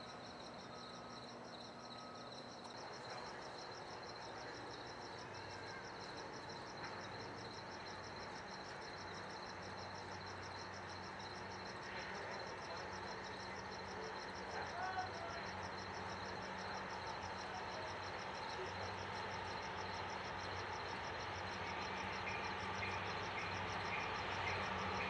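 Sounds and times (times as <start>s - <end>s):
crickets chirping: 0.0s - 25.0s
faint low hum: 0.0s - 25.0s.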